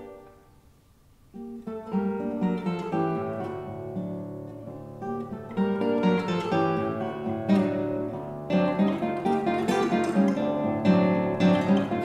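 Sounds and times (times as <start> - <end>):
classical guitar fingerpicking: 0.0 - 12.0.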